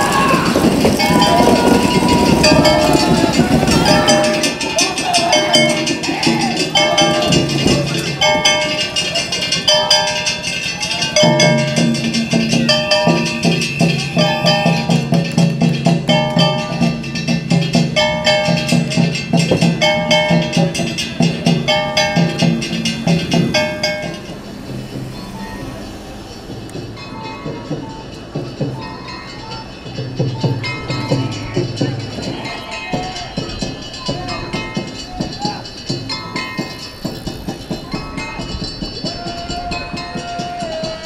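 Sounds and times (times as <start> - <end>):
festival percussion drumming: 0.0 - 41.0
hard clacking strikes: 0.0 - 41.0.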